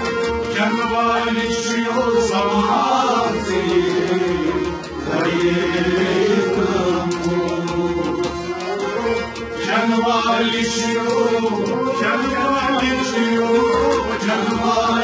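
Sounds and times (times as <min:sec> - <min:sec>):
held instrumental tones: 0:00.0 - 0:15.0.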